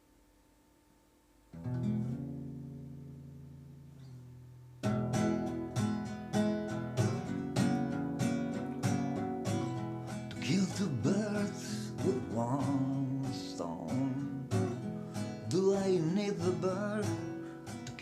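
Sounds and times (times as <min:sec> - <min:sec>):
acoustic guitar strumming: 0:01.5 - 0:18.0.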